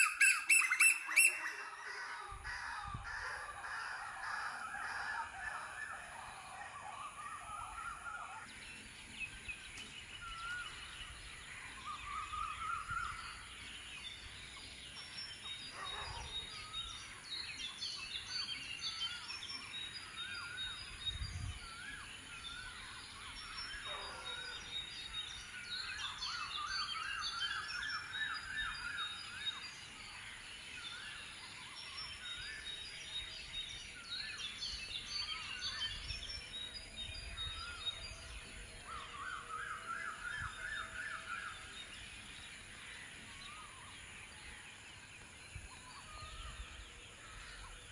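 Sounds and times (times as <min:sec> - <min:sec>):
chorus of birds calling: 0:00.0 - 0:21.0, 0:21.8 - 0:47.9.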